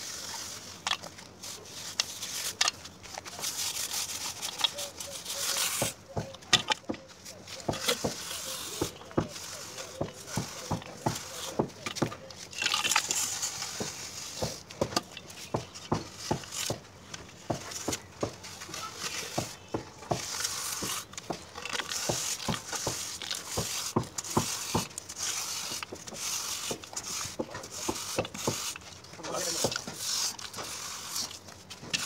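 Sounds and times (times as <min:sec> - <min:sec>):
straightedge scraping plaster: 0:00.0 - 0:32.0.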